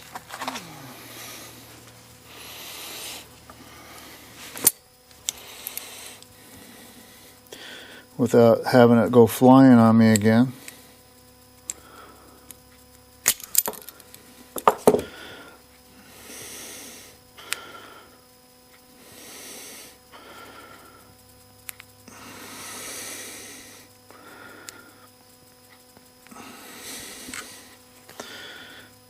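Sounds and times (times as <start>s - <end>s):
slow breathing: 0.4s - 8.2s, 10.6s - 12.7s, 13.8s - 25.4s, 26.2s - 29.0s.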